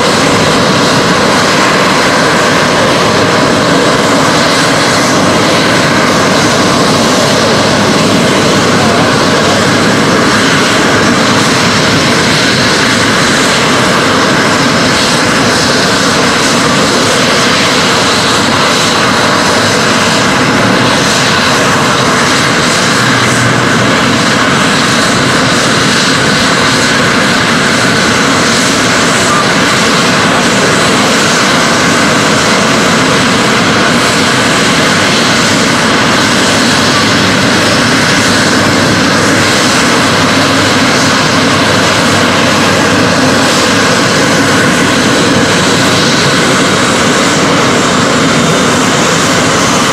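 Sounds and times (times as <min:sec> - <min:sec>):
jet engine roar with whine: 0:00.0 - 0:49.9.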